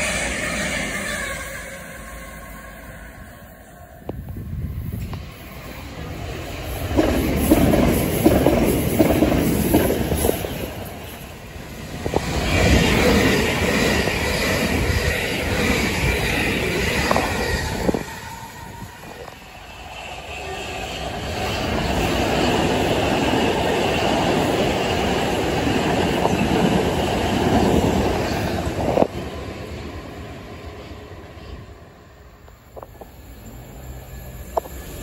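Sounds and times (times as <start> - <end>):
electric trains passing: 0.0 - 35.0
train wheels rumbling and rattling: 4.0 - 35.0.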